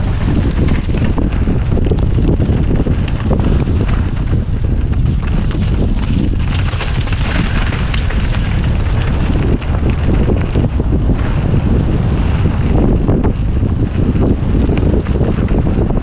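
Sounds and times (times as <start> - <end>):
bike knocks and rattles: 0.0 - 16.0
tyres rumbling on rough dirt: 0.0 - 16.0
wind buffeting microphone: 0.0 - 16.0.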